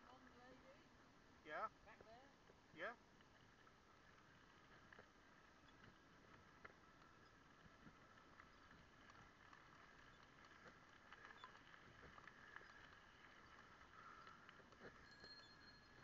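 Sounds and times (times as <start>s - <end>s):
faint steady hiss: 0.0s - 16.0s
faint clicks: 3.2s - 16.0s.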